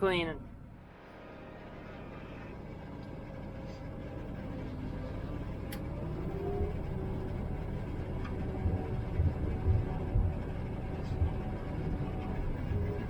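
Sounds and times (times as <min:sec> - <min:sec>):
harvester engine running: 0:00.8 - 0:13.0.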